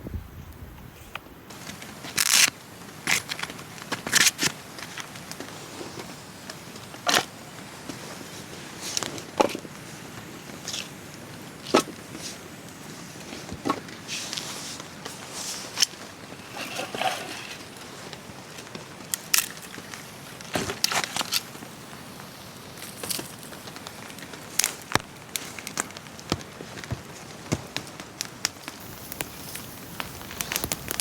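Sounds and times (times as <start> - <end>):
campfire crackling: 1.2 - 31.0.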